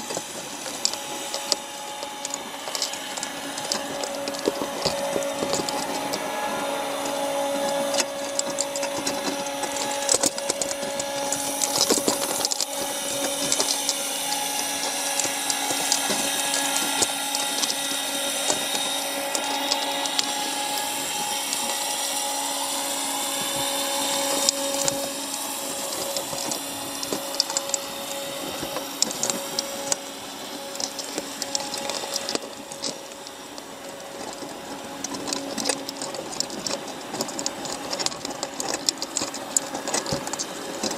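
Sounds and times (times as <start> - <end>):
underwater mechanical hum and whine: 0.0 - 40.9.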